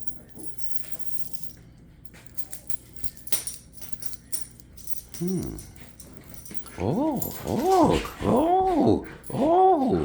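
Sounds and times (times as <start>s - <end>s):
dog leash jingling: 0.0s - 9.6s.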